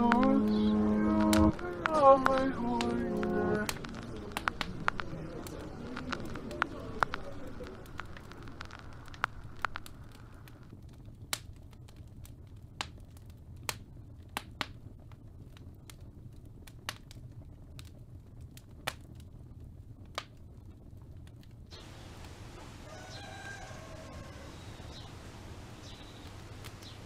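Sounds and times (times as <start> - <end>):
vinyl record crackle: 0.0 - 27.0.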